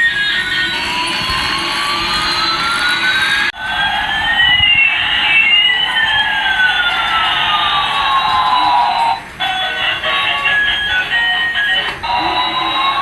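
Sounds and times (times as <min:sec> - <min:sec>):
electronic siren-like tones: 0:00.0 - 0:13.0.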